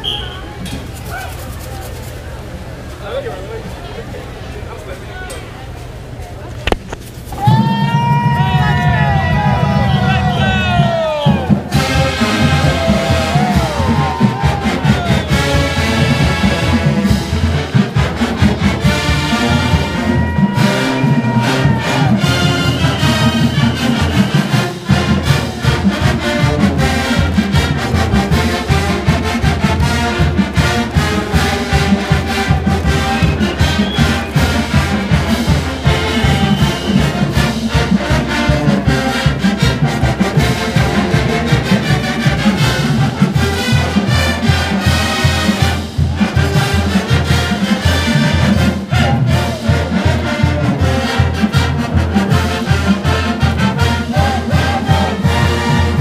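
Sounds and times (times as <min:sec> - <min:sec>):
marching band playing: 0:06.7 - 0:56.0.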